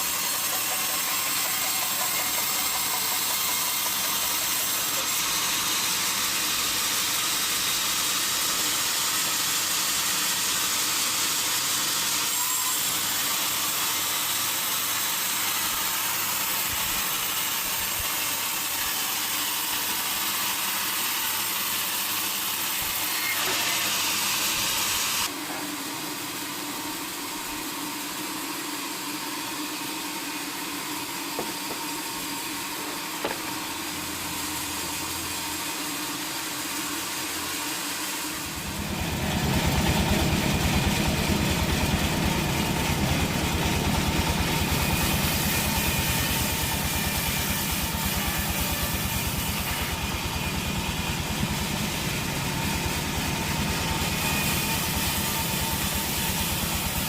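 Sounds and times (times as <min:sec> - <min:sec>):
sawmill machinery hissing: 0:00.0 - 0:57.0.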